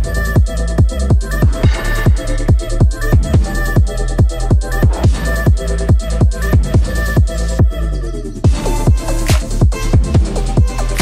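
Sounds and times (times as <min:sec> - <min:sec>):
electronic music with deep kicks: 0:00.0 - 0:11.0.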